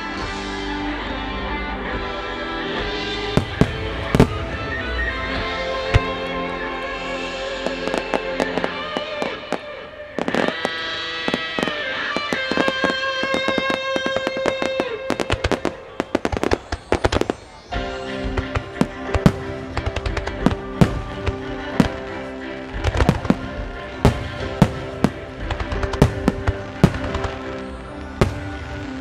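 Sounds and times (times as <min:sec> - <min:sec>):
music: 0:00.0 - 0:29.0
fireworks bangs: 0:02.6 - 0:29.0.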